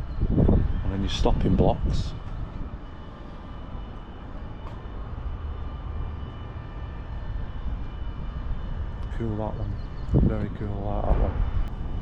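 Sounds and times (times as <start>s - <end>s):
distant aircraft engine rumble: 0.0s - 12.0s
faint high whine: 0.0s - 12.0s.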